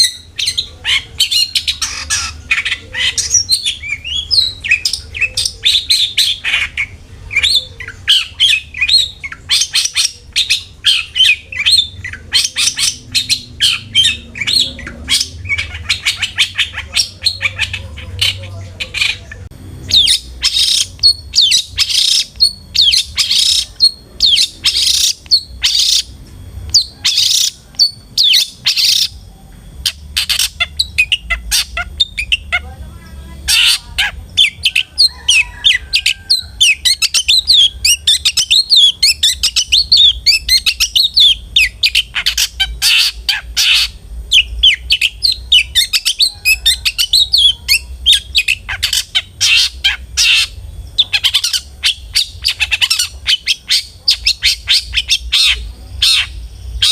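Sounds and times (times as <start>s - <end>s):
bird twittering chatter: 0.0s - 56.9s
harsh rasping bird calls: 0.0s - 56.9s.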